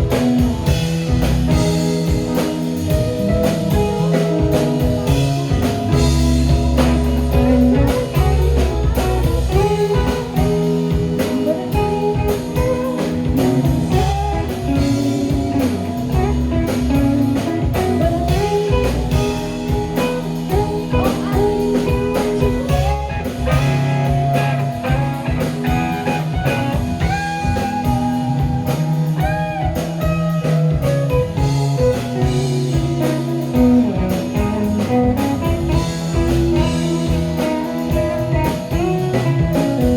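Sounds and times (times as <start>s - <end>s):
drum hits: 0.0s - 39.9s
live rock band playing: 0.0s - 39.9s.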